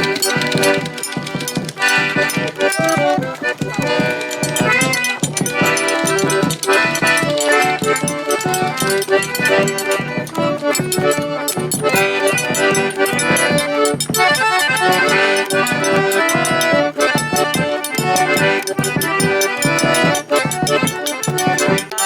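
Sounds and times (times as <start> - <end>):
accordion playing: 0.0 - 22.0
percussion beat: 0.0 - 22.0.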